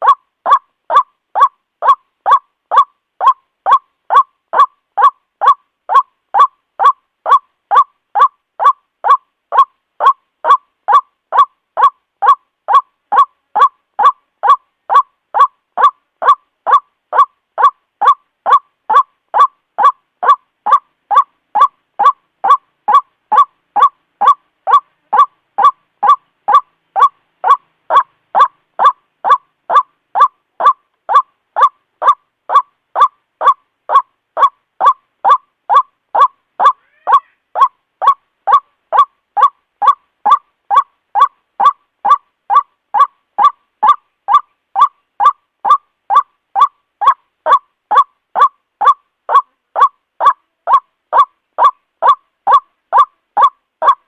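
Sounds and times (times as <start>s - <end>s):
waterhen honking call: 0.0s - 54.0s.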